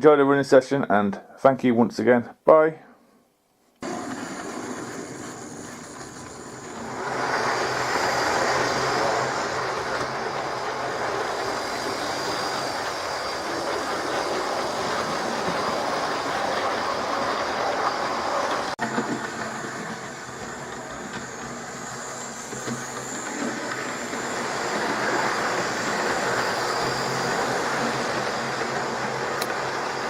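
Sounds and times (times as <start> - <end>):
model train whirring on track: 3.8 - 30.0.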